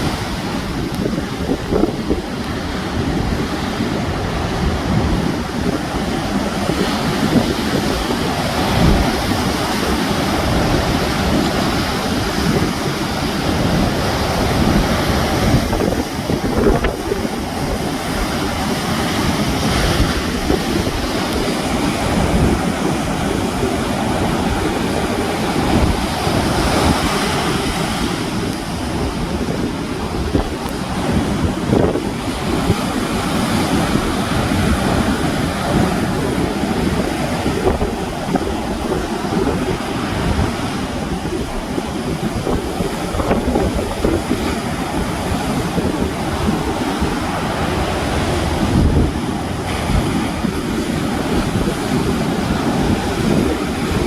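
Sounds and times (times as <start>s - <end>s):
sea waves breaking on shore: 0.0s - 54.0s
wind buffeting microphone: 0.0s - 54.0s.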